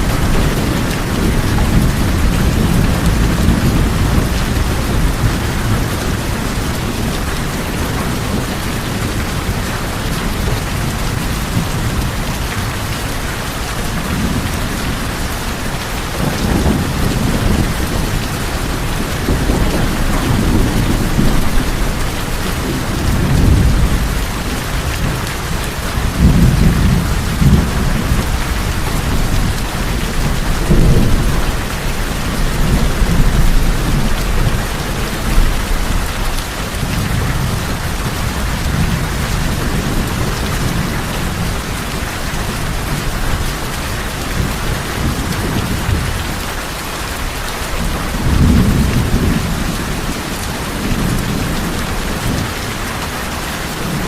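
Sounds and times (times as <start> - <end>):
heavy rain on a tin roof: 0.0 - 54.0
low thunder rumbles: 0.0 - 54.0.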